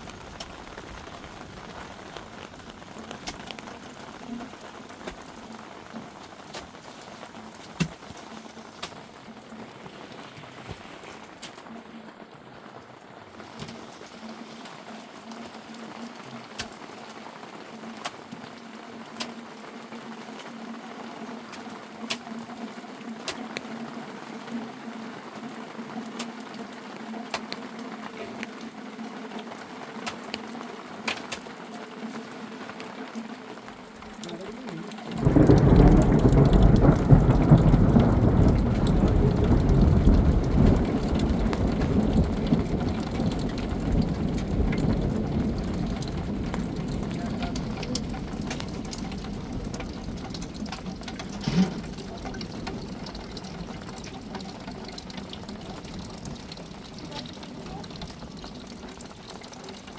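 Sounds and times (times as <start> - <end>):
faint rain: 0.0 - 59.9.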